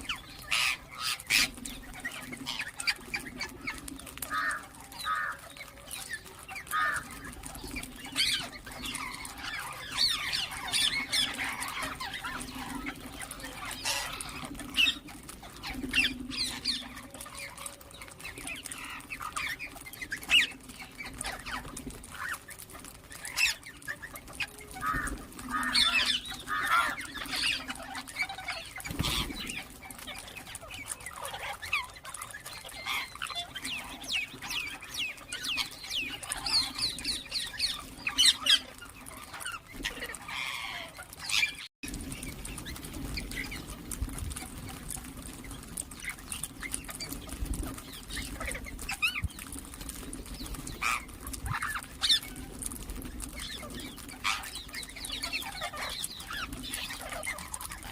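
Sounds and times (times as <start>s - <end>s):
parakeets chirping and squawking: 0.0s - 57.9s.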